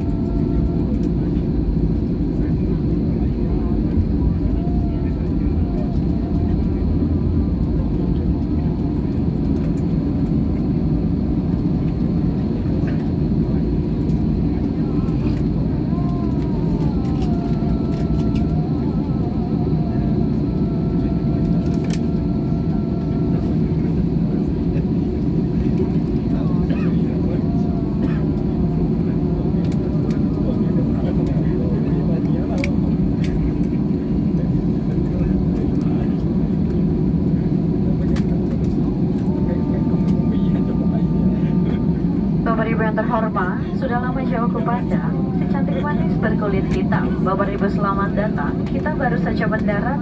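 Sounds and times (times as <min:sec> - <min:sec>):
jet engine whine: 0:00.0 - 0:50.0.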